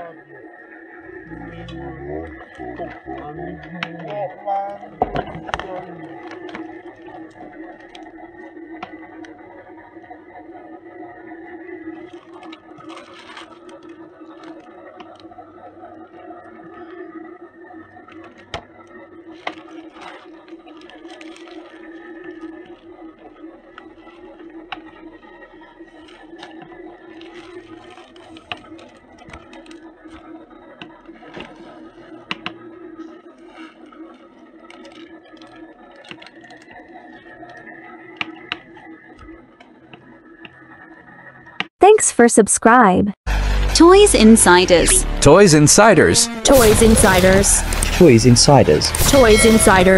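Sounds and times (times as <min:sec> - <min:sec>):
mechanical whirring: 0:00.0 - 0:41.7
toy motor humming: 0:01.0 - 0:41.6.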